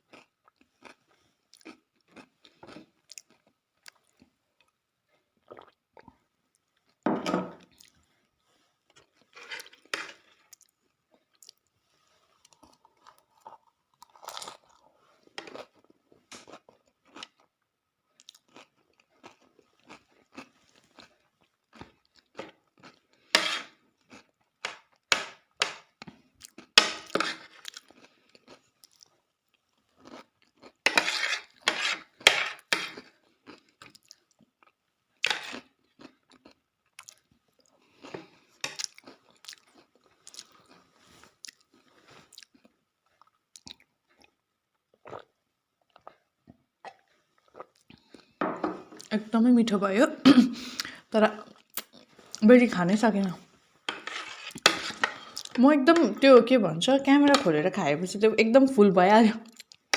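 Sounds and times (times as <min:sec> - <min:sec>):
crunching and chewing food: 0:00.0 - 0:07.0, 0:07.6 - 0:48.4, 0:50.8 - 0:52.4, 0:53.8 - 0:55.6, 0:59.5 - 0:59.9.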